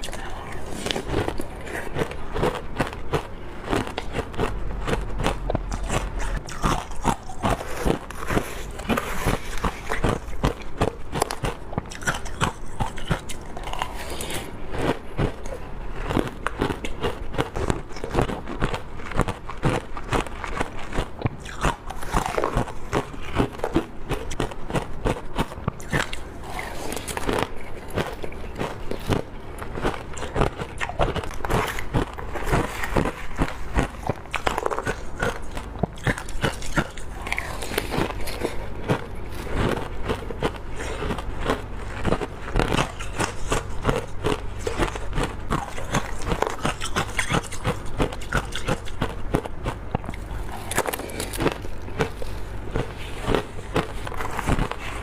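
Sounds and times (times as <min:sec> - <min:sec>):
teeth crunching ice: 0:00.0 - 0:55.0.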